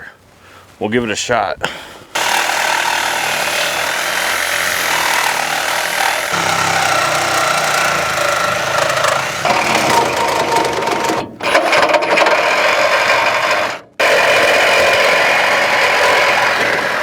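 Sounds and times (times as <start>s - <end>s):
reciprocating saw cutting metal: 2.2s - 17.0s.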